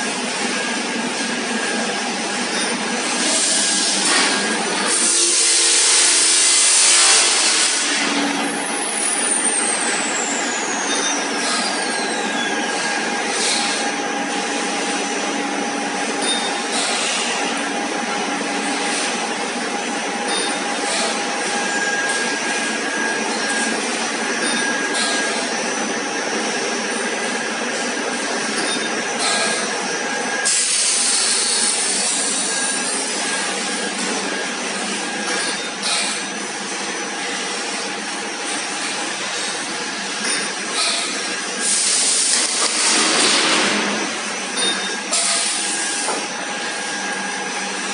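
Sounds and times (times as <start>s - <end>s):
pipe-making machine drone: 0.0s - 47.9s.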